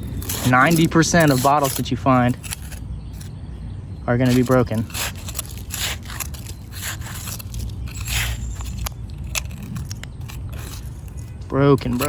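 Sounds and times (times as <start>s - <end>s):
trowel scraping dirt and leaves: 0.0s - 3.3s, 4.1s - 12.0s.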